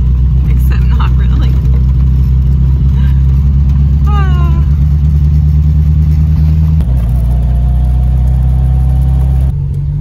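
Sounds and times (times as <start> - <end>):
car engine drone inside cab: 0.0 - 10.0.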